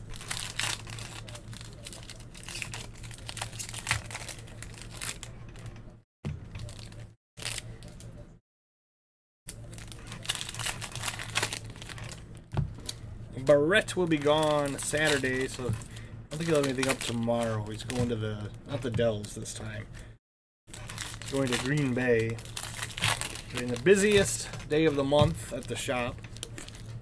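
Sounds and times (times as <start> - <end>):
foil wrappers crinkling and tearing: 0.0 - 5.8, 6.6 - 8.1, 9.5 - 19.8, 20.7 - 27.0.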